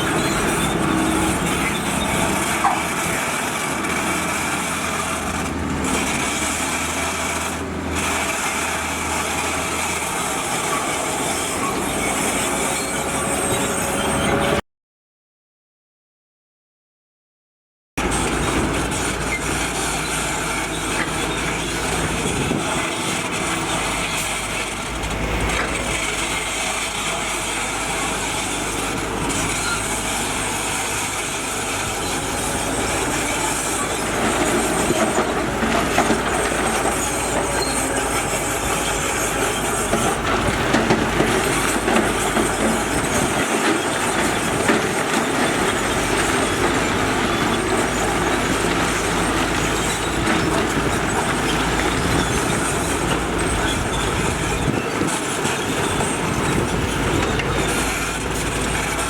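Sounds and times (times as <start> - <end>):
diesel engines running: 0.0 - 14.6, 18.0 - 59.0.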